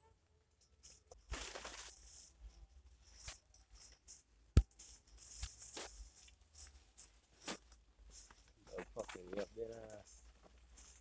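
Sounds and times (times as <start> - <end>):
rustling of leafy undergrowth: 0.8 - 11.0.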